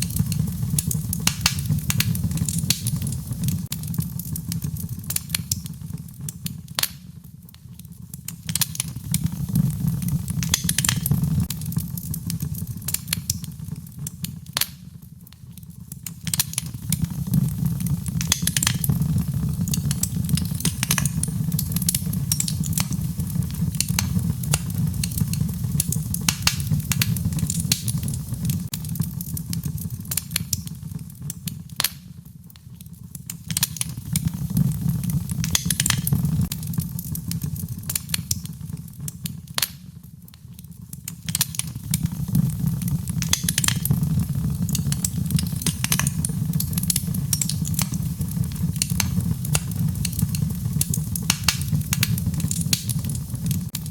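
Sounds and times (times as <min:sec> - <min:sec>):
low rumble of burning: 0:00.0 - 0:53.9
wood fire crackling: 0:00.0 - 0:53.9.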